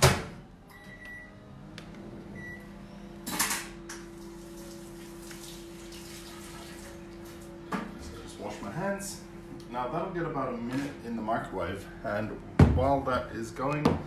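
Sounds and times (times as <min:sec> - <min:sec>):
microwave oven humming: 0:00.0 - 0:14.0.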